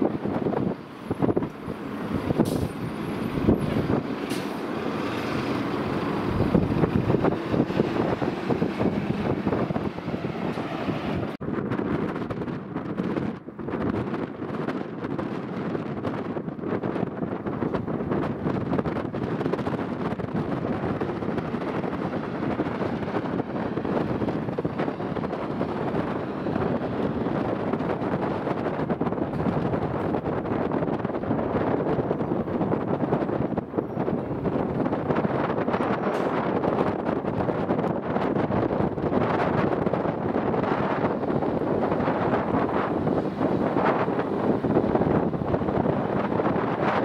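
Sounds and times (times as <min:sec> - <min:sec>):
jet airliners taxiing: 0:00.0 - 0:11.4, 0:19.4 - 0:47.0
jetliner engines rumbling: 0:00.0 - 0:47.0
wind on microphone: 0:00.0 - 0:47.0.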